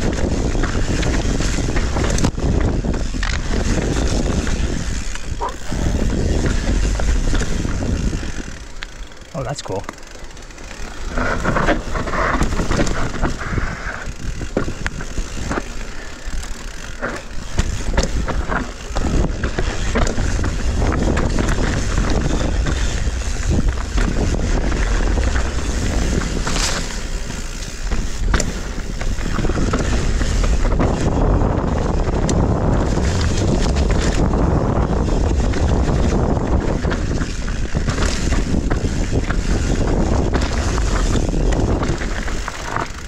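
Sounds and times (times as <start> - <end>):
wind buffeting microphone: 0.0 - 9.3, 10.4 - 43.0
bike rattling: 0.0 - 43.0
tyres rumbling on rocky trail: 0.0 - 43.0.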